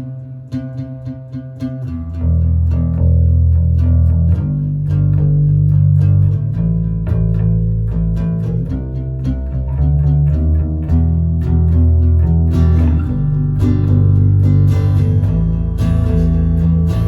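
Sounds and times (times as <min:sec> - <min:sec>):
bass guitar notes: 0:00.0 - 0:17.0
guitars picking: 0:00.0 - 0:17.0.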